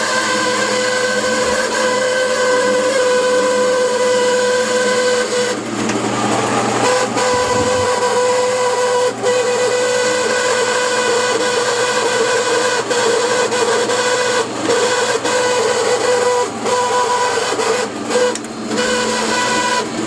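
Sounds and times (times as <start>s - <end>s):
washing machine high-pitched screech: 0.0s - 20.0s.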